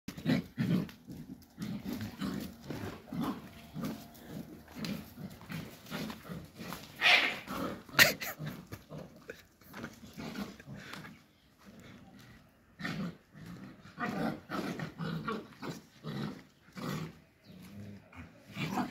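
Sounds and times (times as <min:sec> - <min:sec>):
dogs growling and grunting: 0:00.1 - 0:18.9.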